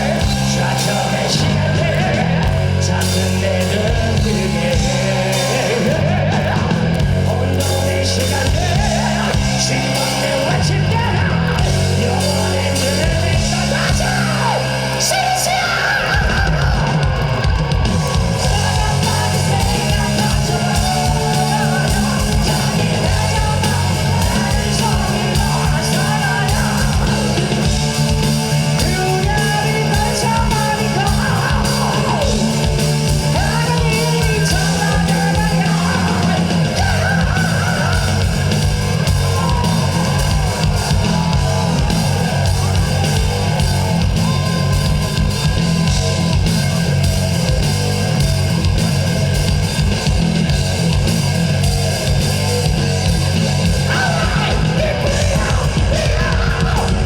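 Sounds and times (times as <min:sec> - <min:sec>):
distorted electric guitars: 0:00.0 - 0:57.0
drum kit fast hits: 0:00.0 - 0:57.0.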